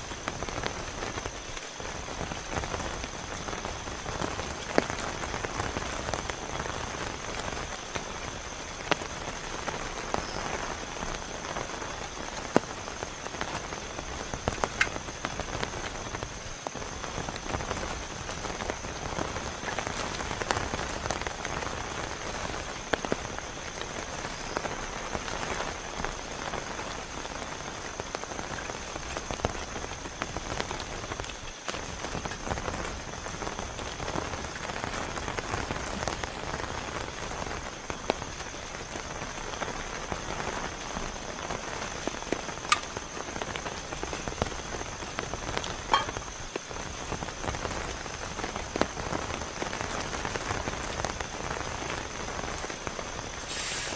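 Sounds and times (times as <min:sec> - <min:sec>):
heavy rain falling: 0:00.0 - 0:53.9
raindrops tapping close by: 0:00.0 - 0:53.9.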